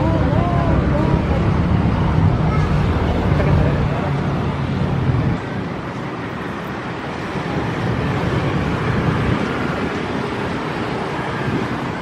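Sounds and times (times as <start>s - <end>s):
locomotive rumbling: 0.0s - 12.0s.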